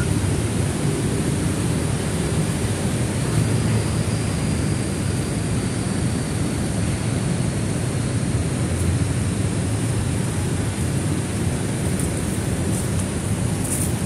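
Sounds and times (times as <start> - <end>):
low steady rumbling: 0.0 - 14.0.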